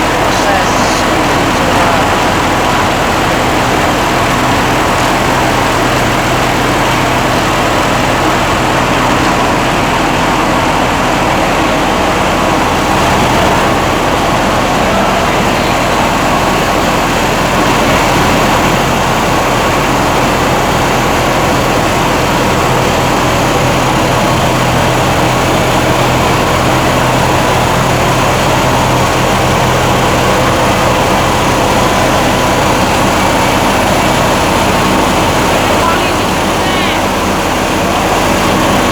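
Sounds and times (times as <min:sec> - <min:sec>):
diesel engine driving rice huller: 0:00.0 - 0:38.9.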